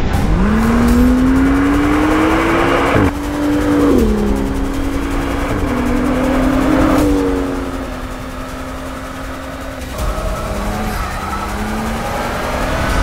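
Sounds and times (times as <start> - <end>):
car engine revving hard: 0.0 - 13.0
spinning tyres hissing: 0.0 - 13.0.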